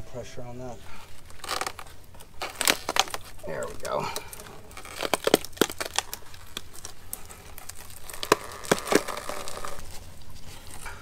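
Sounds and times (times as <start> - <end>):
fiberglass cracking and snapping: 0.9 - 11.0.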